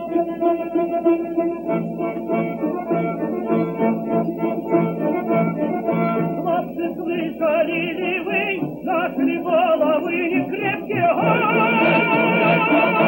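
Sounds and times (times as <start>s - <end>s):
sustained accompaniment: 0.0s - 13.0s.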